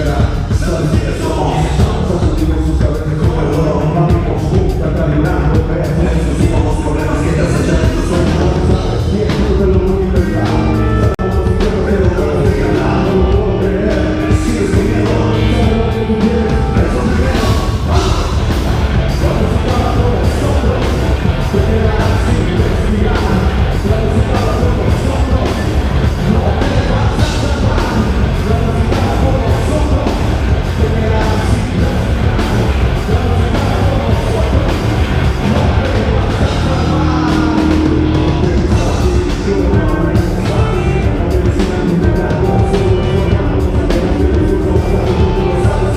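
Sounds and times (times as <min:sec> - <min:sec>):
distorted guitars: 0:00.0 - 0:45.9
live heavy rock band: 0:00.0 - 0:45.9
person singing: 0:00.0 - 0:45.9.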